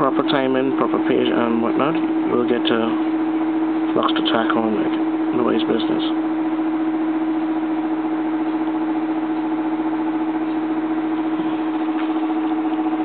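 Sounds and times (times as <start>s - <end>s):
electric motor hum: 0.0s - 13.0s.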